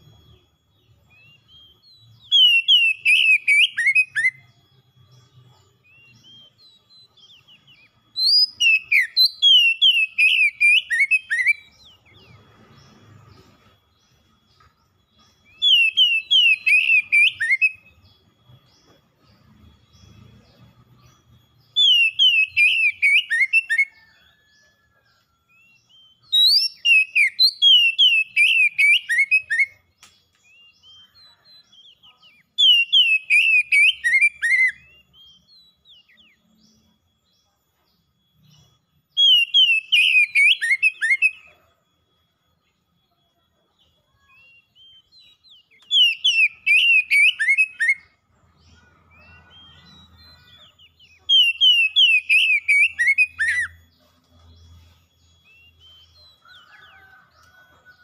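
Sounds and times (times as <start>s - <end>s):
bird whistled song: 0.0s - 58.0s.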